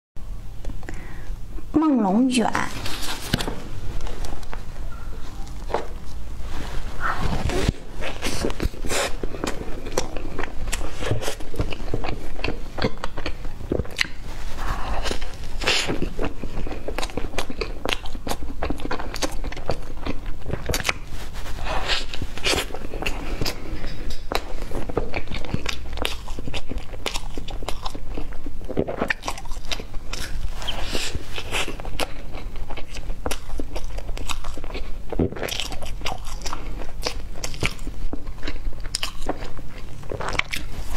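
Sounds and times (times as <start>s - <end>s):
crunchy biting and chewing: 7.0s - 40.9s.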